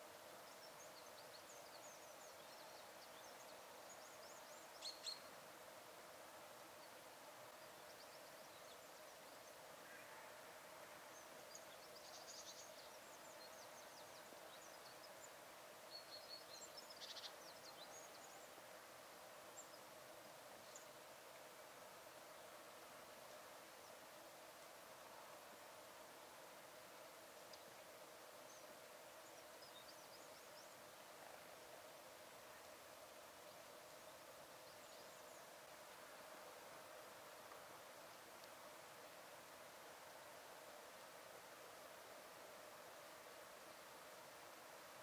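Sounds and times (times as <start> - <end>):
faint background noise: 0.0 - 45.0
songbirds chirping: 0.0 - 45.0.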